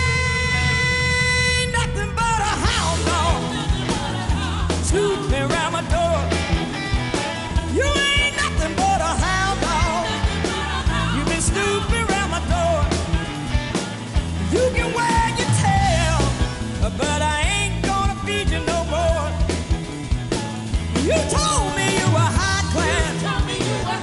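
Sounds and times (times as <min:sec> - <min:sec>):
woman singing: 0:00.0 - 0:19.4, 0:20.4 - 0:24.0
bass guitar: 0:00.0 - 0:24.0
drums: 0:00.0 - 0:24.0
electric guitar: 0:00.0 - 0:24.0.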